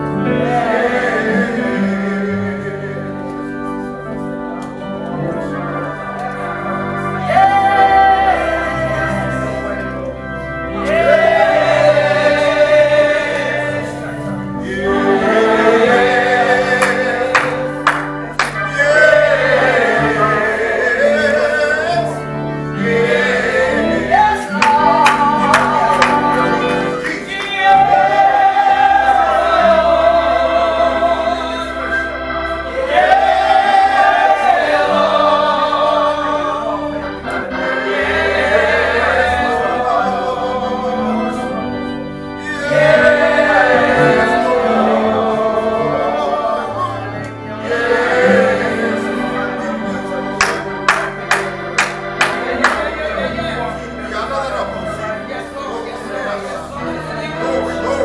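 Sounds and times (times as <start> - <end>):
group of voices singing: 0.0 - 58.0
instrumental accompaniment: 0.0 - 58.0.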